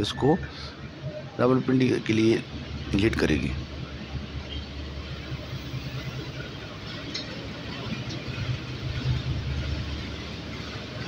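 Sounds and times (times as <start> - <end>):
locomotive engine rumbling: 0.0 - 11.0.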